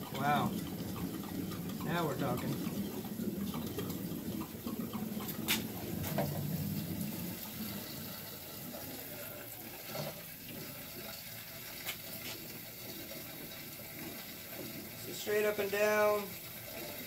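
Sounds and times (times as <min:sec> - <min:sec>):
aquarium water churning and bubbling: 0:00.0 - 0:17.0.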